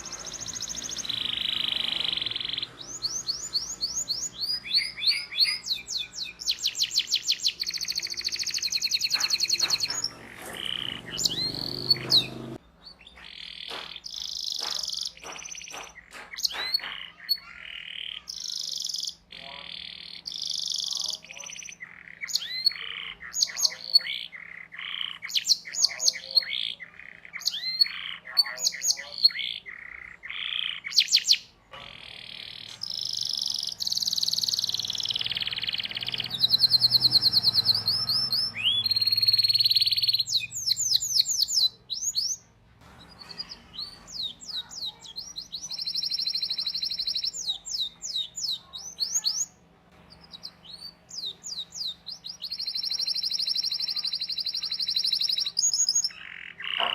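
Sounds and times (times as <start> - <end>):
canary singing: 0.0 - 56.9.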